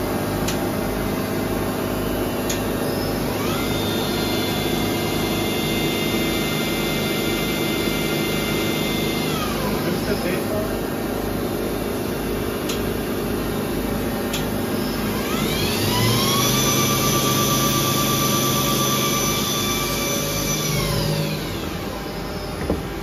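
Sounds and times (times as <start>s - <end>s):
machine hum: 0.0s - 23.0s
machine spindle whining: 0.0s - 23.0s.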